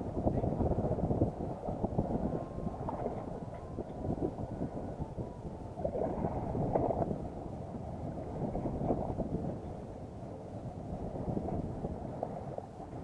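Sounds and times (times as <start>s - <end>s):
open sea wash: 0.0s - 13.0s
wind buffeting microphone: 0.0s - 13.0s.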